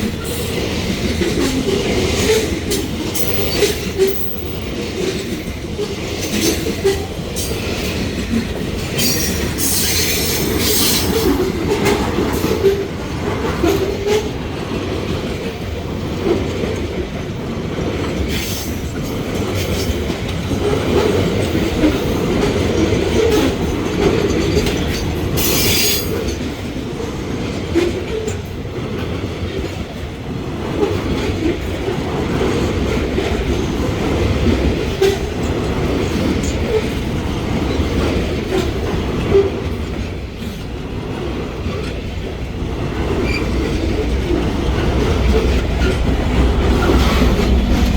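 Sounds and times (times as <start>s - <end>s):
freight train wheels rumbling on rails: 0.0s - 47.9s.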